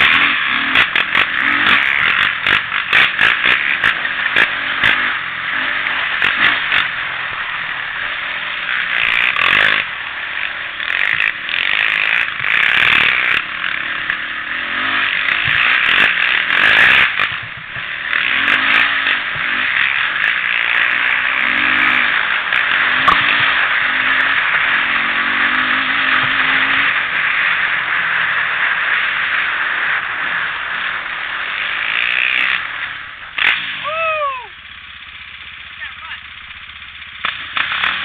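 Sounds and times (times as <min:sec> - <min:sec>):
quad engine revving: 0:00.0 - 0:38.0.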